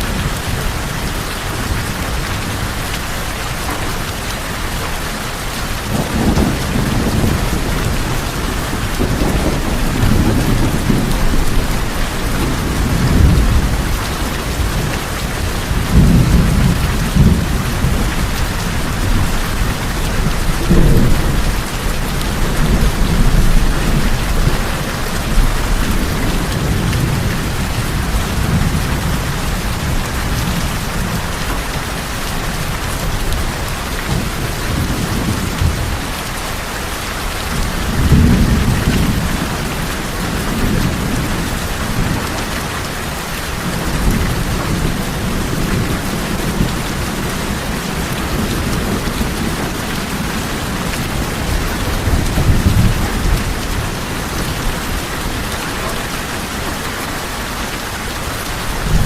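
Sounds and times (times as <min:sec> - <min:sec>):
low rolling thunder: 0:00.0 - 0:36.6, 0:37.2 - 0:56.7, 0:58.4 - 0:59.0
heavy rain on tin roofs: 0:00.0 - 0:59.0.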